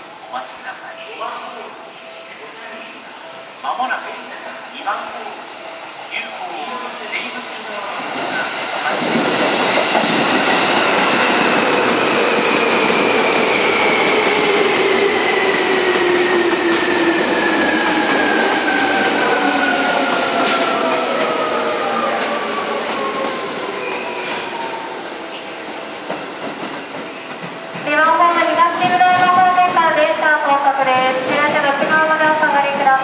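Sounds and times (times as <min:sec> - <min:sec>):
rail noise: 0:00.0 - 0:33.0.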